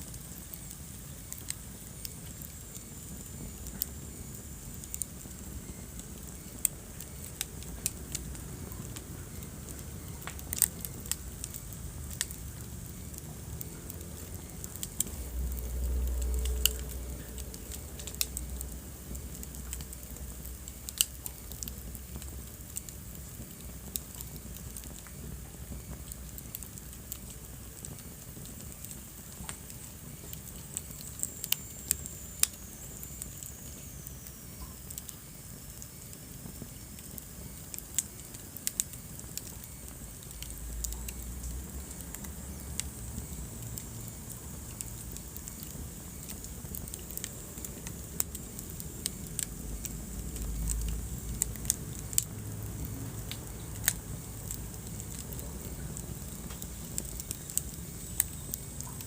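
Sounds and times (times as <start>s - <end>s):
fire crackles and pops: 0.0s - 59.0s
wood fire hissing: 0.0s - 59.0s.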